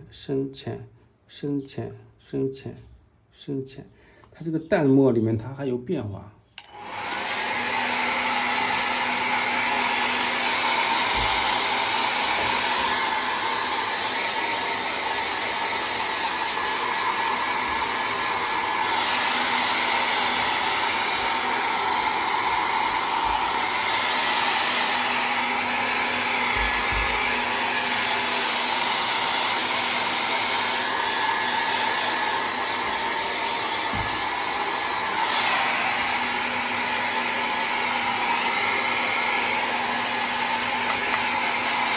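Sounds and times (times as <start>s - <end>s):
hair dryer blowing: 6.6s - 41.9s.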